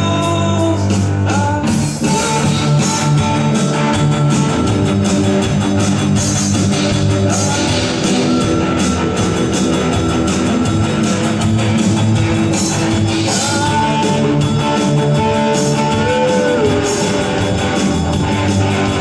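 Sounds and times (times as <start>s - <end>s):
bass guitar: 0.0s - 19.0s
electric guitars: 0.0s - 19.0s.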